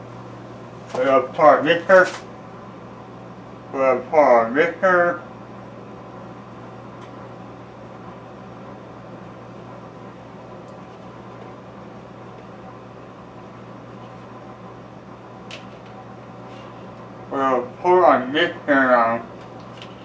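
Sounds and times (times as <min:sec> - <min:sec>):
low electrical hum and hiss: 0:00.0 - 0:20.0.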